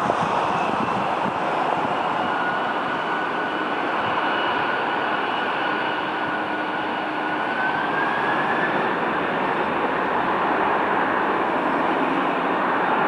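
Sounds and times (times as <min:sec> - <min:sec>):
jet engines roaring with turbine whine: 0:00.0 - 0:13.0.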